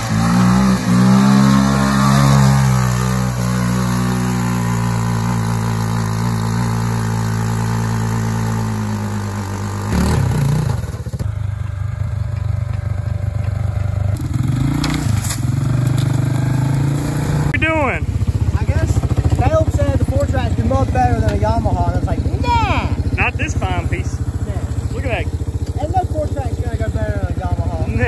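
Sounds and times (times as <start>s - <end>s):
small off-road vehicle engine: 0.0s - 28.0s.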